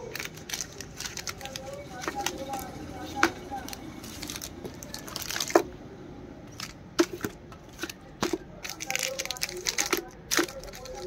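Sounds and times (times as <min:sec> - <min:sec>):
crinkling foil and plastic wrappers: 0:00.0 - 0:05.6, 0:06.6 - 0:11.0.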